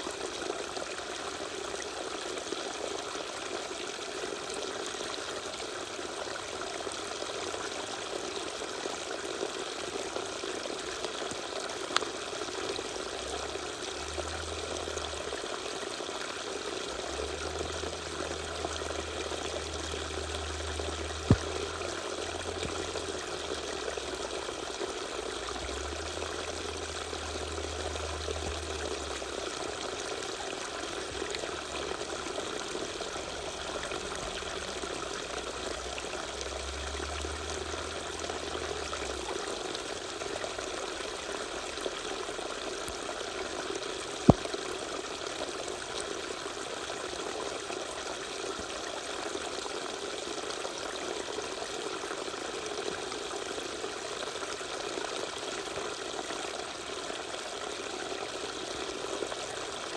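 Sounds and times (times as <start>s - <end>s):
waterfall pouring and trickling: 0.0s - 59.9s.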